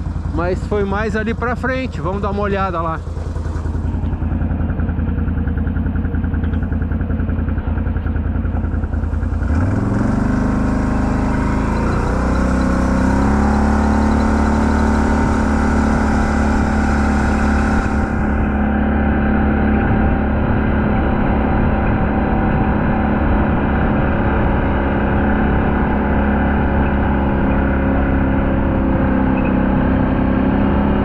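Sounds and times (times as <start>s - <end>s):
vehicle engine revving up: 1.0s - 31.0s.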